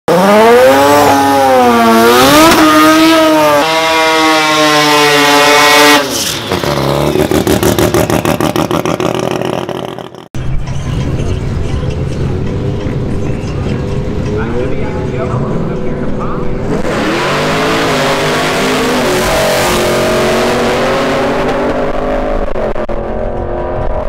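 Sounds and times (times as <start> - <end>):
car engine revving: 0.1 - 24.0.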